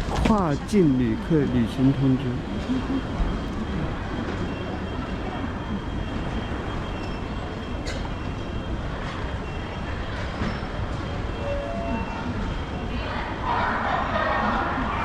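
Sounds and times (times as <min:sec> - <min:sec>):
station hall rumble: 0:00.0 - 0:15.0.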